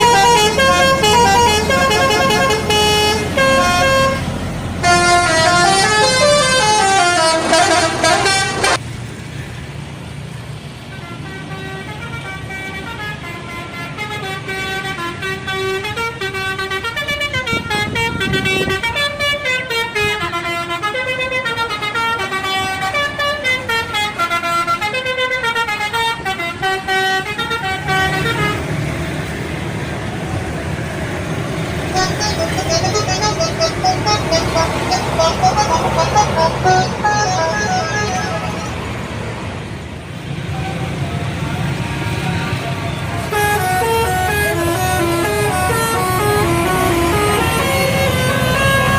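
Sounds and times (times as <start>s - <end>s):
bus musical air horns: 0.0s - 8.8s, 10.9s - 29.3s, 31.3s - 48.9s.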